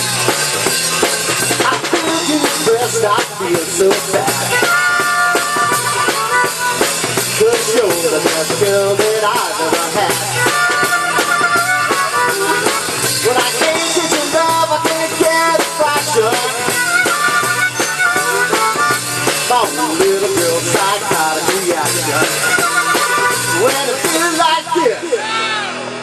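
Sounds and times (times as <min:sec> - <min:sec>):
bass guitar: 0:00.0 - 0:26.0
drum kit: 0:00.0 - 0:26.0
electric guitar: 0:00.0 - 0:26.0
harmonica wavering notes: 0:00.0 - 0:26.0.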